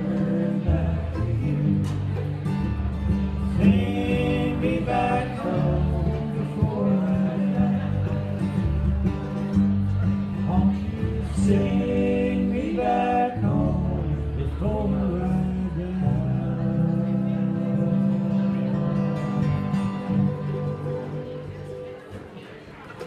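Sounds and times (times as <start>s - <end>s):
man singing: 0.0s - 2.4s, 3.4s - 9.6s, 10.2s - 20.7s
upright bass: 0.0s - 22.3s
mandolin: 0.0s - 23.0s
strummed acoustic guitar: 0.0s - 23.0s.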